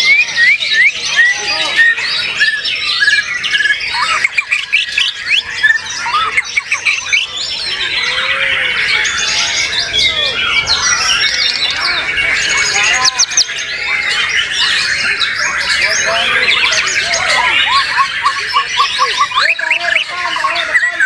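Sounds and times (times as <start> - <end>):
birds singing and chattering: 0.0 - 21.0.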